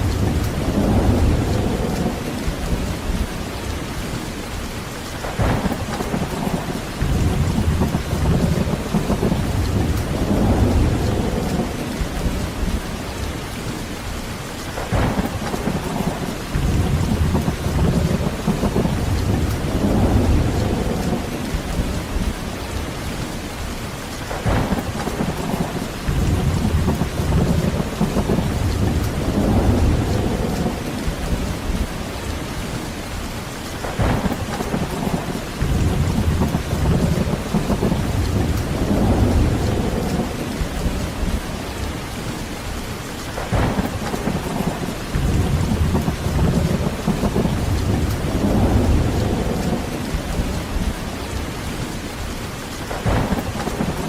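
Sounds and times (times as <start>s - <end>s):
rolling thunder: 0.0s - 4.4s, 5.1s - 14.1s, 14.7s - 23.4s, 24.2s - 54.0s
heavy rain: 0.0s - 54.0s.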